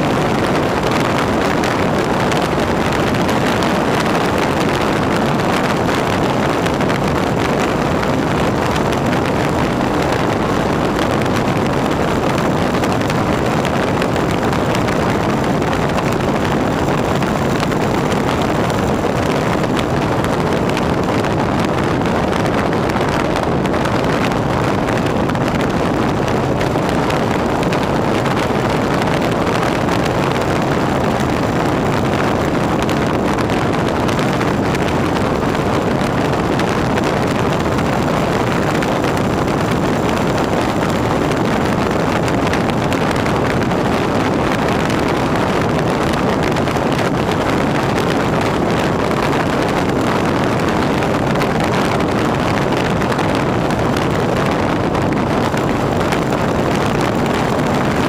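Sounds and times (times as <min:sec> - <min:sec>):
wind rushing on microphone: 0:00.0 - 0:58.0.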